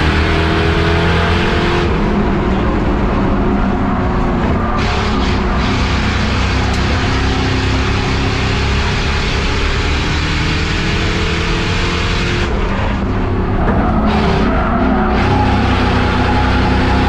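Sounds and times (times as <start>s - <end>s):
race car engine at speed: 0.0s - 17.0s
wind and road noise: 0.0s - 17.0s.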